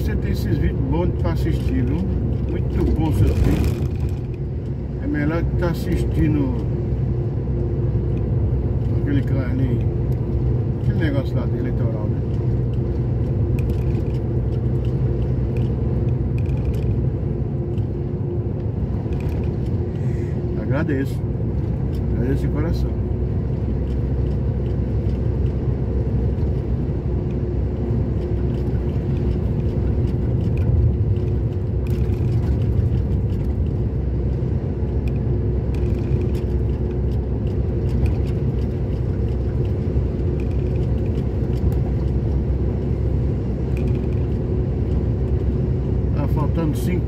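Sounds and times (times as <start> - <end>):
vehicle engine and road rumble: 0.0 - 47.0.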